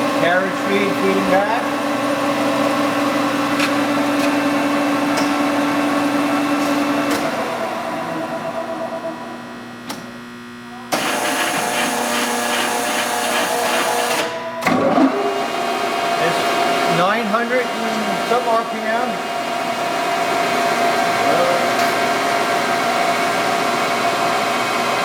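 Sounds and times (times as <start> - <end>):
lathe gear whine: 0.0 - 25.0.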